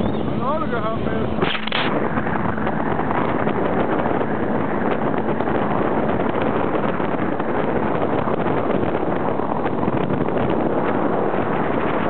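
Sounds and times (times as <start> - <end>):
boat motor and rushing water: 0.0 - 12.0
wind buffeting microphone: 0.0 - 12.0.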